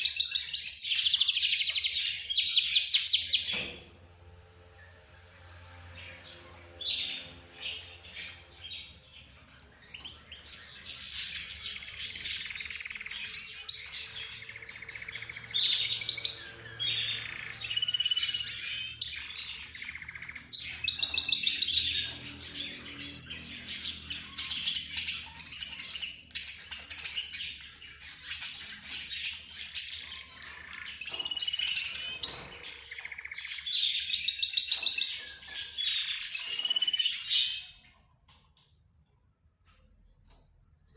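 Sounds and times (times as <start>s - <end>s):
cage birds chirping and warbling: 0.0s - 40.9s.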